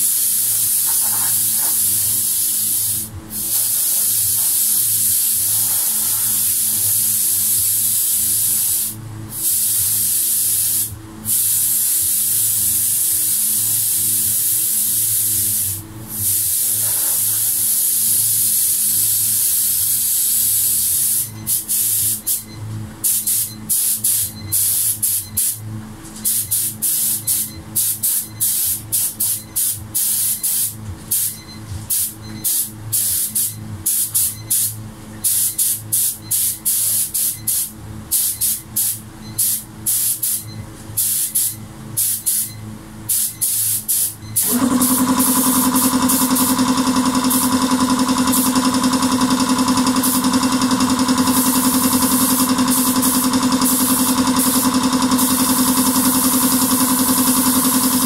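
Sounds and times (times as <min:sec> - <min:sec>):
spray gun hissing in bursts: 0:00.0 - 0:22.4, 0:23.0 - 0:25.6, 0:26.2 - 0:58.0
air compressor running: 0:00.0 - 0:58.0.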